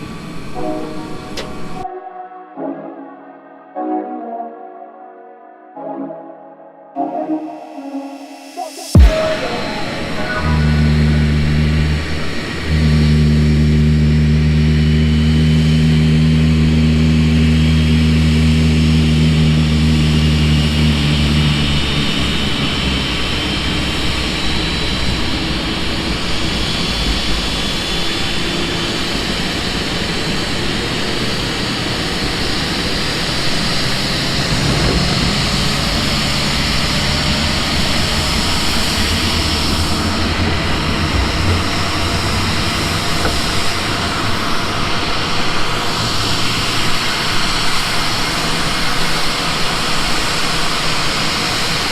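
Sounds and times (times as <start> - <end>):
jet engine high whine: 0.0 - 1.8, 7.1 - 51.9
low engine hum: 9.0 - 51.9.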